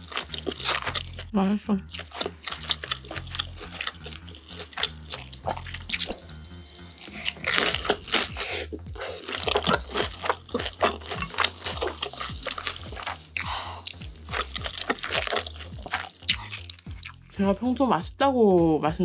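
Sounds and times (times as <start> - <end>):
slurping noodles: 0.0 - 1.3, 1.9 - 17.3
mouth clicks and chewing: 0.0 - 17.4.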